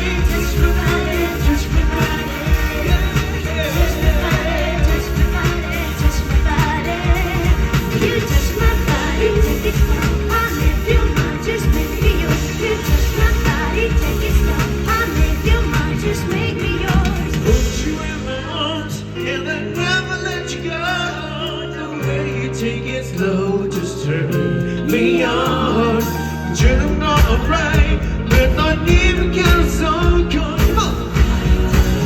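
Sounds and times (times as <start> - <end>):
live pop band music: 0.0 - 32.0.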